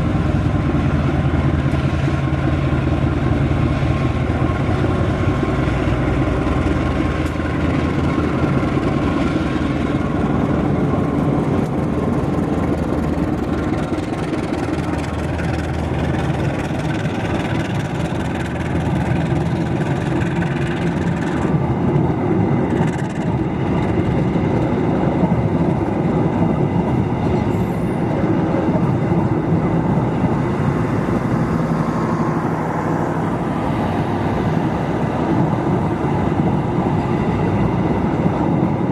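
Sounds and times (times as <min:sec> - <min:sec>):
passenger train running on rails: 0:00.0 - 0:38.9.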